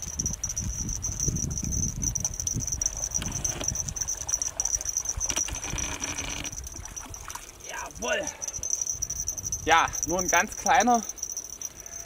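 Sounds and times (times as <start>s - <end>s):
wind rumble: 0.0s - 11.1s
crickets chirping: 0.0s - 12.0s.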